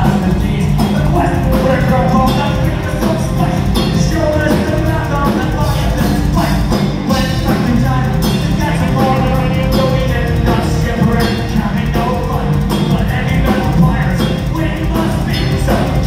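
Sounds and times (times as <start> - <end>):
heavy metal band playing live: 0.0 - 16.0
person singing: 0.0 - 16.0.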